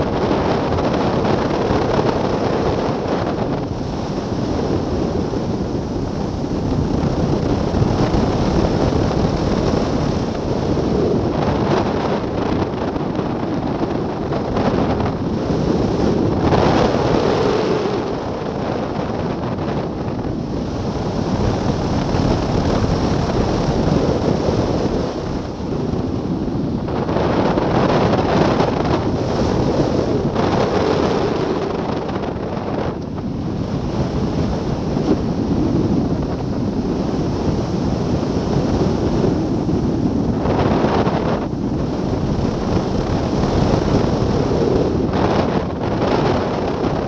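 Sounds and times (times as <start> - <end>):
wind rushing over microphone: 0.0 - 47.0.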